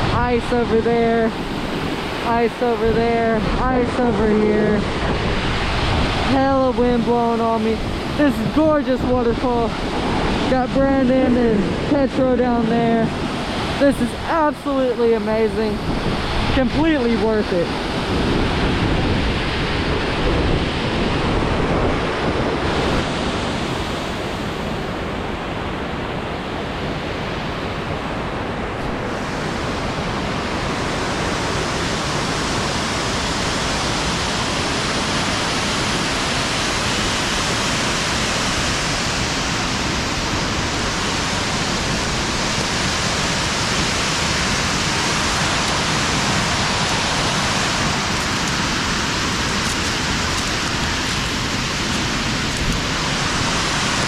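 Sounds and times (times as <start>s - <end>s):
waterfall roaring: 0.0s - 54.0s
wind buffeting microphone: 0.0s - 54.0s.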